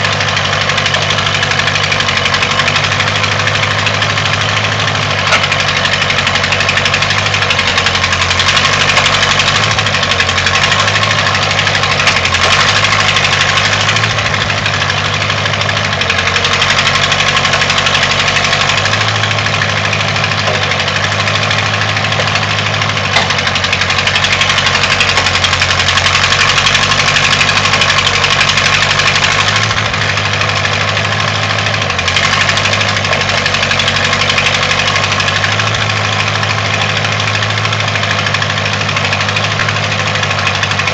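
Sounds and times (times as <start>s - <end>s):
backhoe engine running: 0.0s - 40.9s.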